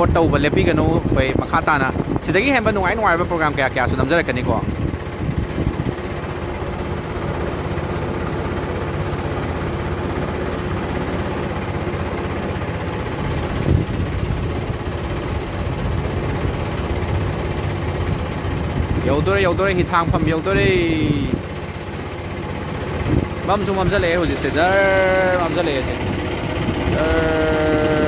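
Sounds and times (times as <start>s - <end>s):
motorboat engine running: 0.0s - 28.0s.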